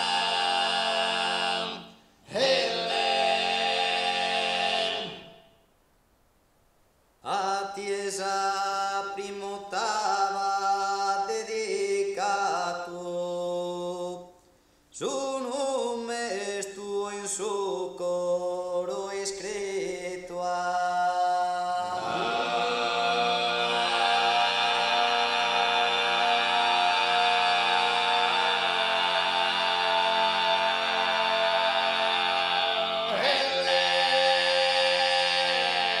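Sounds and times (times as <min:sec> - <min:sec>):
male vocal quartet singing: 0:00.0 - 0:05.4, 0:07.2 - 0:14.3, 0:15.0 - 0:36.0.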